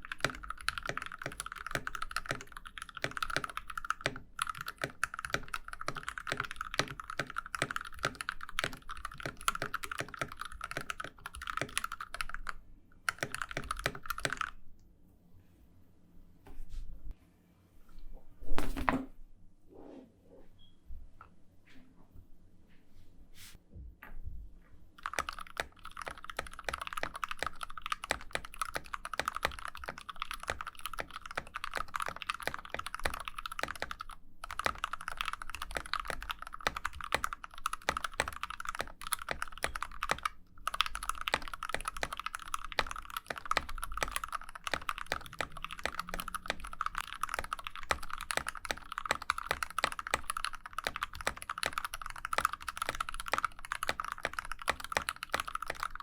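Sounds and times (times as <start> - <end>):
mechanical keyboard typing: 0.0 - 14.6, 25.0 - 56.0.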